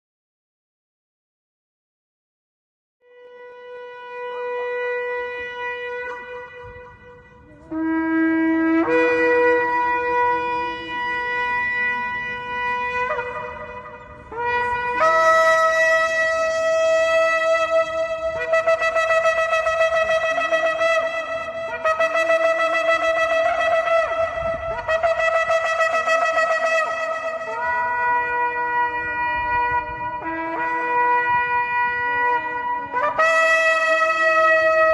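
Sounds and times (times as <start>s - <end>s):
shofar blasts: 3.1s - 34.9s.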